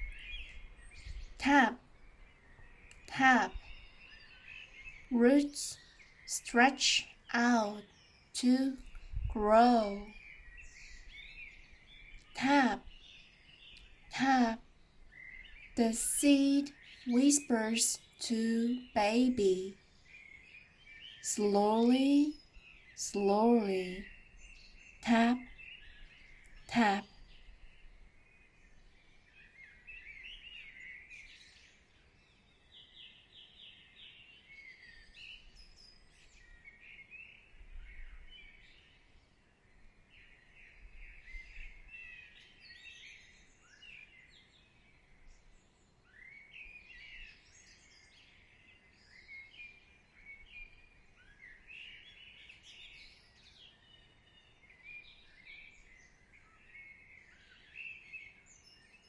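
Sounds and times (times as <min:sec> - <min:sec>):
small birds chirping and warbling: 0:00.0 - 0:05.1, 0:10.0 - 0:15.8, 0:16.6 - 0:19.0, 0:19.6 - 0:59.0.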